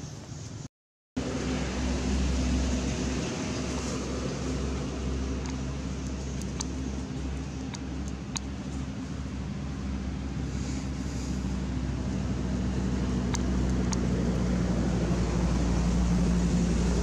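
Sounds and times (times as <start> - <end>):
rushing background noise: 1.2 - 17.0
steady low hum: 1.2 - 17.0.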